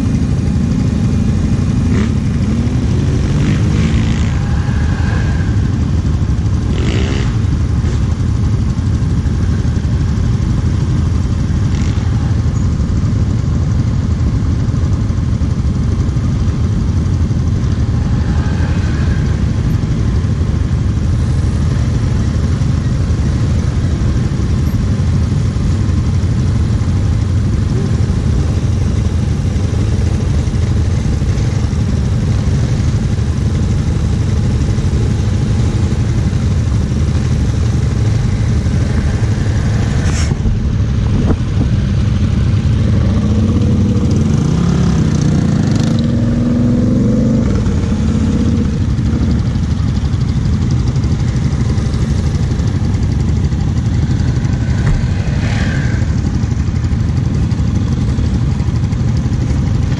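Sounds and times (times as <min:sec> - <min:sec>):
atv engines revving: 0:00.0 - 0:59.9
quad engine idling: 0:00.0 - 0:59.9.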